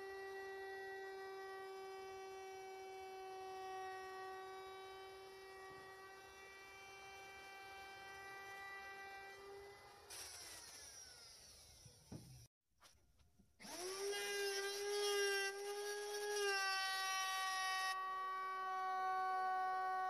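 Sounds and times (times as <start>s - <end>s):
electric router whine: 0.0s - 12.5s, 13.6s - 20.0s.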